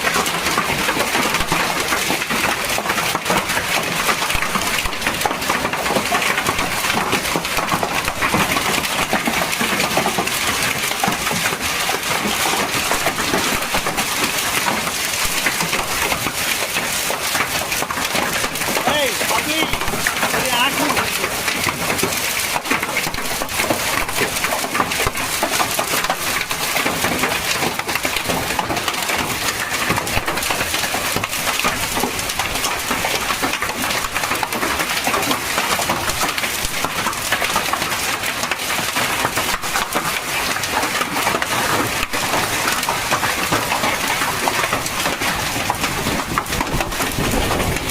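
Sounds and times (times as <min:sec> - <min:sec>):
hailstones pelting down: 0:00.0 - 0:47.9.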